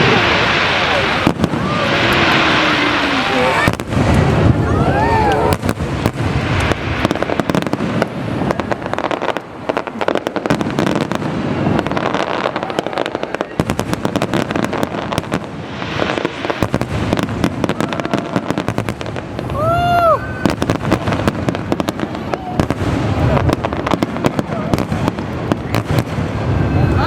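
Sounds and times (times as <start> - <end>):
deep fireworks booms: 0.0 - 27.0
fireworks crackling and popping: 0.0 - 27.0.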